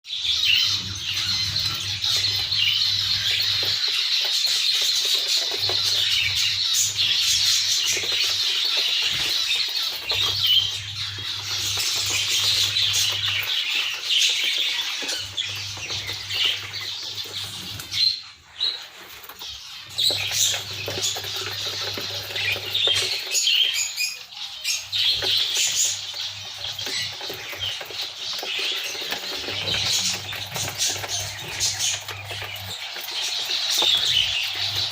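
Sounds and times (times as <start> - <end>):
budgerigars chattering and warbling: 0.1 - 34.9.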